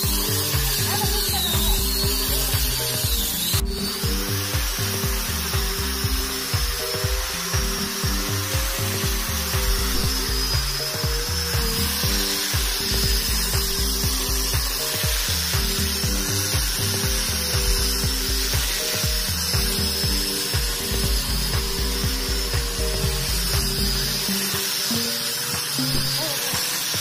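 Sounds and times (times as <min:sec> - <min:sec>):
angle grinder shaving wood: 0:00.0 - 0:27.0
background music: 0:00.0 - 0:27.0.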